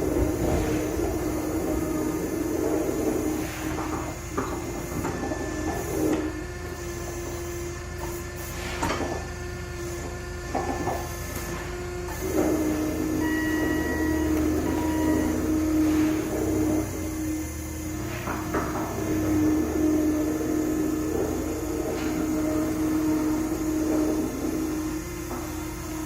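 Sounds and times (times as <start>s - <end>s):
machinery humming and rumbling: 0.0s - 26.0s.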